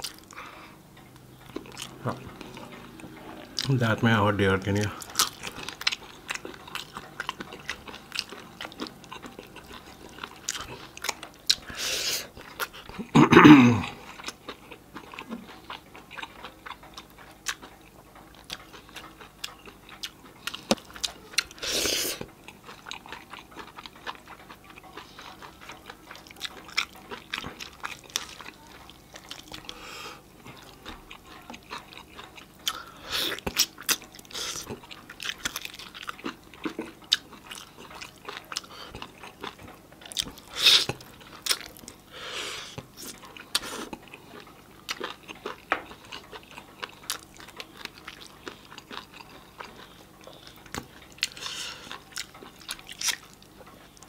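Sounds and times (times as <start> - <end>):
chewing roast chicken: 0.0 - 54.0.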